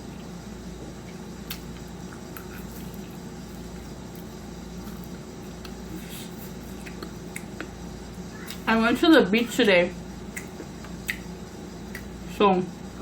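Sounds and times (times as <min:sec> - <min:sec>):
chewing food: 0:00.0 - 0:08.7, 0:10.3 - 0:12.1
steady background hum: 0:00.0 - 0:13.0.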